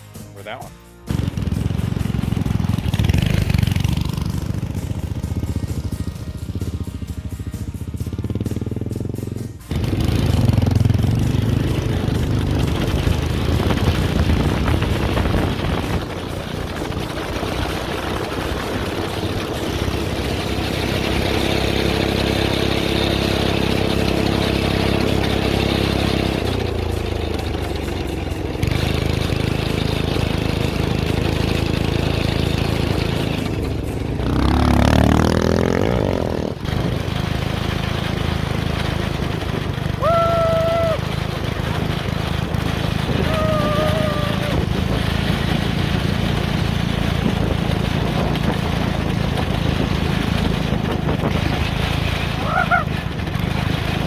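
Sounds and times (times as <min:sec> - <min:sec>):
go-kart engine running: 0:01.1 - 0:54.0.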